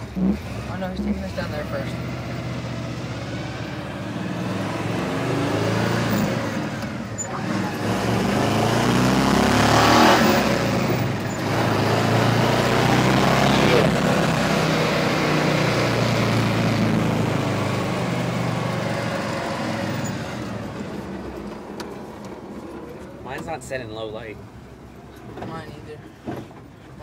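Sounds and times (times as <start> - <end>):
truck engine accelerating: 0.0 - 25.4.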